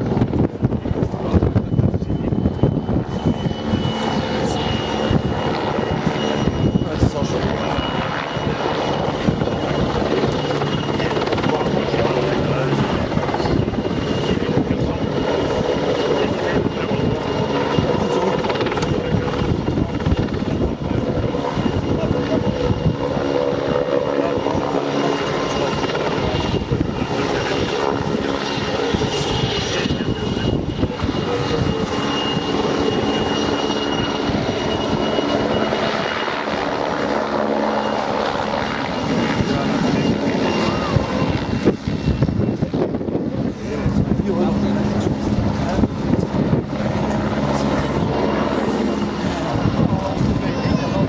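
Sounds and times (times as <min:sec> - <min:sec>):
helicopter rotor chop: 0:00.0 - 0:51.0
high turbine whine: 0:00.0 - 0:51.0.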